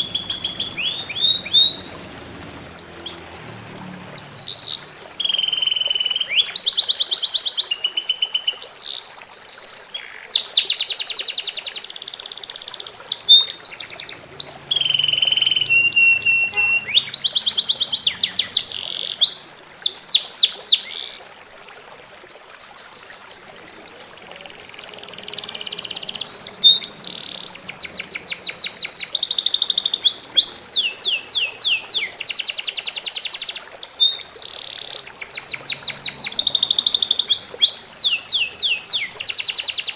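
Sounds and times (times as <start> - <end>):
songbird singing trills: 0.0 - 2.1, 3.0 - 21.2, 23.5 - 39.9
running water babbling: 0.0 - 39.9.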